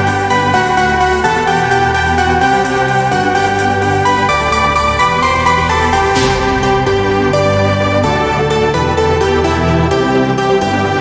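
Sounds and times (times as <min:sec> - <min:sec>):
electronic music with synth: 0:00.0 - 0:11.0.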